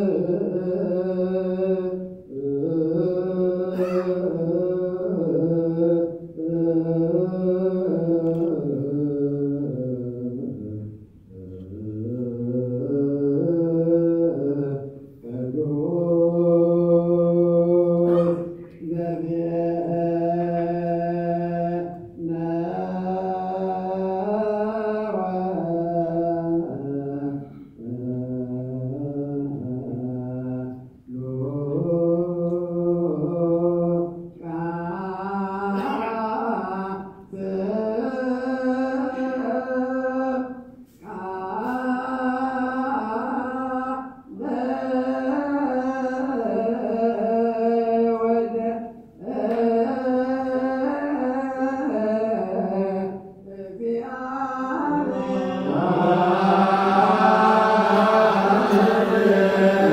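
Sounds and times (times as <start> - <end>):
liturgical chanting: 0.0 - 59.9.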